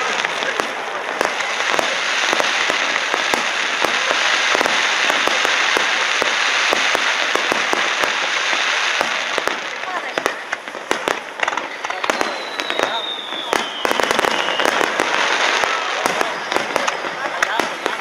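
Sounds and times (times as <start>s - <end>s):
dense crackling: 0.0s - 18.0s
firework shells bursting: 0.0s - 18.0s.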